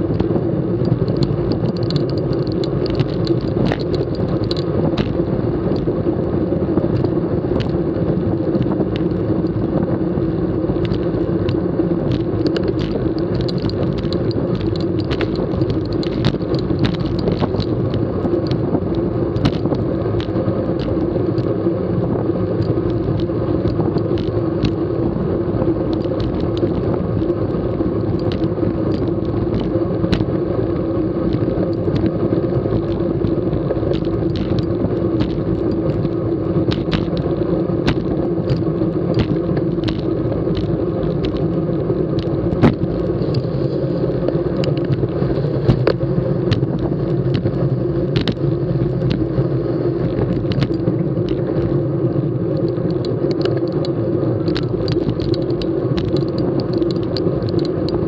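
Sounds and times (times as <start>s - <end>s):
bike clicks and rattles: 0.0s - 58.0s
tyres rumbling on road: 0.0s - 58.0s
wind on camera: 0.0s - 58.0s.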